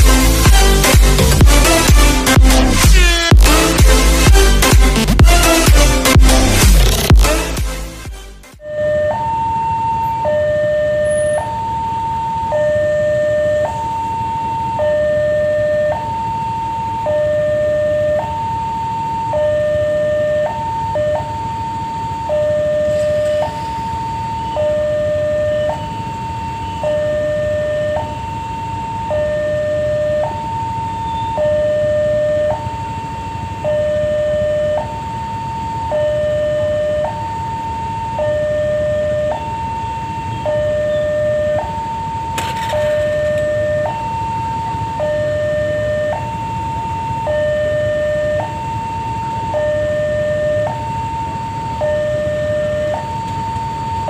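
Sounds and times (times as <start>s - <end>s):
level-crossing two-tone alarm: 0.0s - 54.0s.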